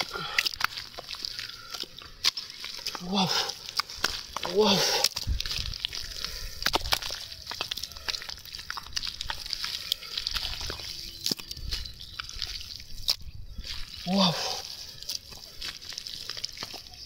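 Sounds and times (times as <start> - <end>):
wet mud squelches and slaps: 0.0 - 17.0.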